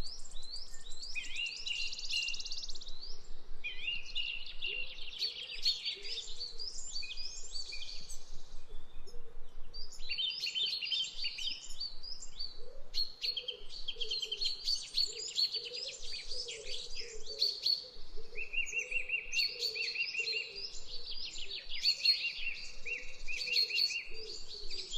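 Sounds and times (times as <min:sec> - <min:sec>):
birds chirping and trilling: 0:00.1 - 0:24.9.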